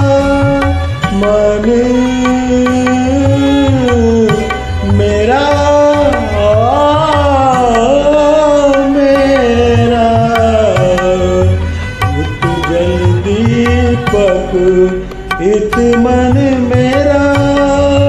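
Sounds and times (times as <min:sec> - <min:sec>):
karaoke backing track with tabla: 0:00.0 - 0:18.0
man singing melismatic phrase: 0:00.0 - 0:18.0.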